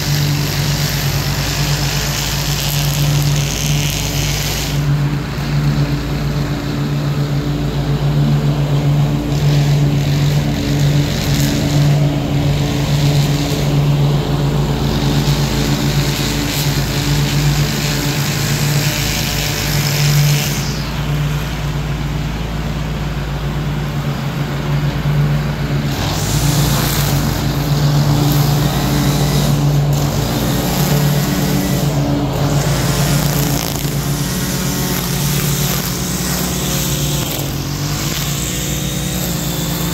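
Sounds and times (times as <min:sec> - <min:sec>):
mower engine running: 0:00.0 - 0:39.9
string trimmer whine: 0:00.0 - 0:39.9.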